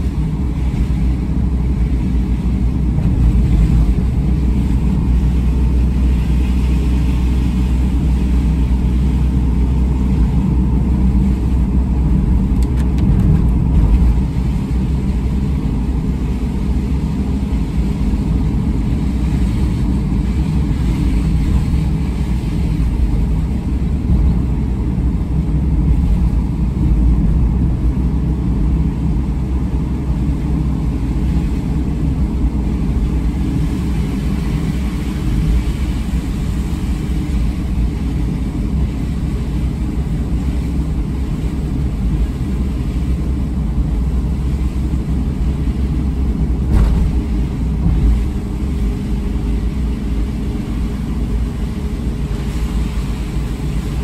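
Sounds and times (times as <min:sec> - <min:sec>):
car driving on wet road: 0:00.0 - 0:54.0.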